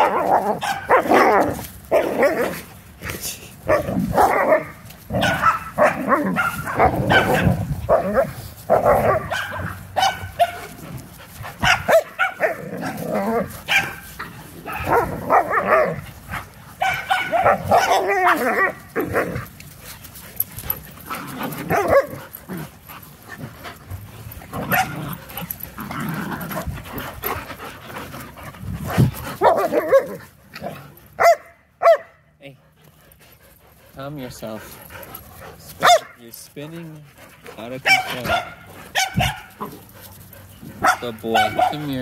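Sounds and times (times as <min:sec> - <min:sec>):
puppies barking: 0:00.0 - 0:02.7, 0:03.7 - 0:19.5, 0:20.5 - 0:28.4, 0:29.0 - 0:32.3, 0:34.0 - 0:42.0.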